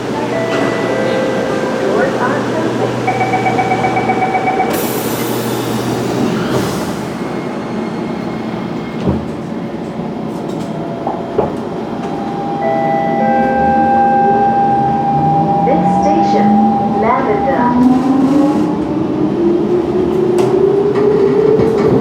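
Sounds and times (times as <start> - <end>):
metro train rumbling and whining: 0.0 - 22.0.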